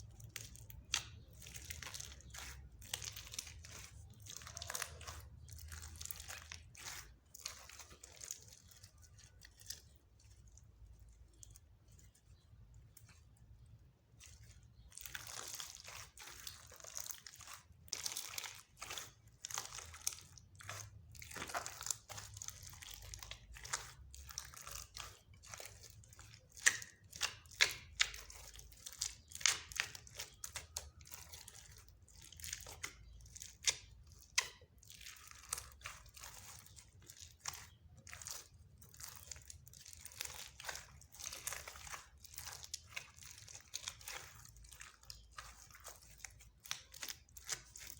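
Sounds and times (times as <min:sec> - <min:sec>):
slime kneaded by hand: 0:00.0 - 0:47.9.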